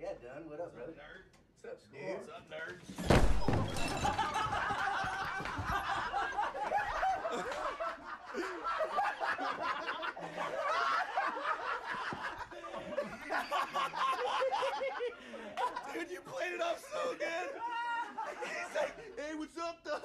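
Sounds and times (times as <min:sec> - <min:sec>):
men laughing: 0:03.7 - 0:20.0.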